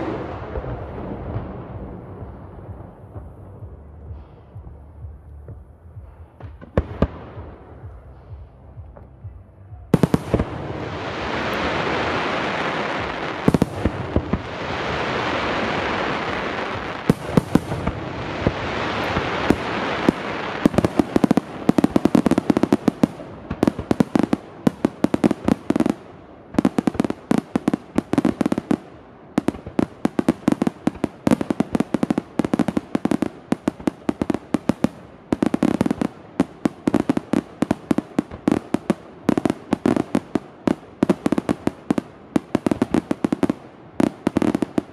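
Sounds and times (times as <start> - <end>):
fireworks crackling hiss: 0.0 - 4.8, 9.9 - 44.9
fireworks bangs: 0.0 - 44.9.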